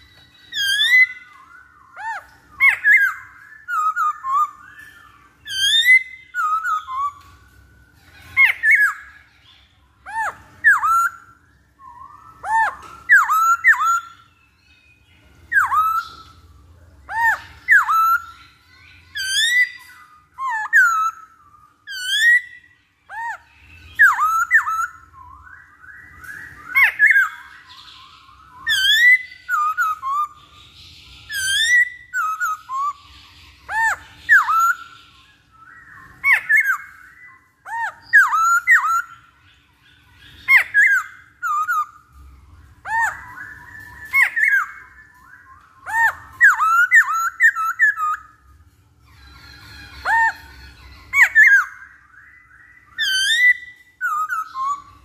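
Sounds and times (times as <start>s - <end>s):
bird whistled song: 0.0s - 55.0s.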